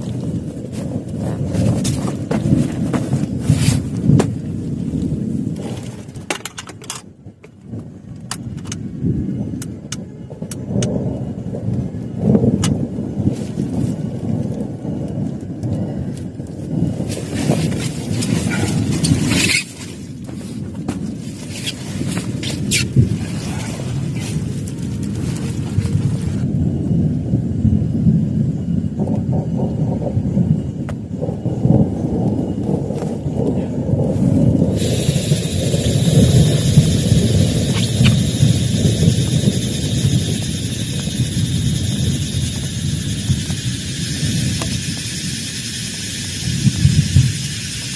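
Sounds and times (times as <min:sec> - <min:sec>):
heavy rain drumming on shelter: 0:00.0 - 0:47.9
thunder rumbling: 0:00.0 - 0:47.9.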